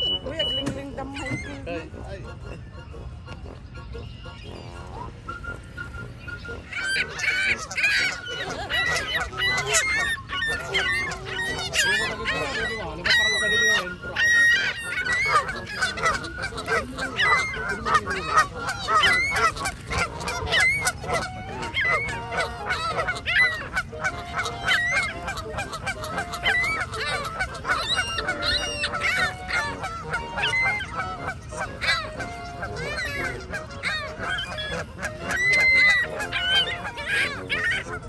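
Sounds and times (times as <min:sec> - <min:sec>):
geese honking: 0:00.0 - 0:38.0.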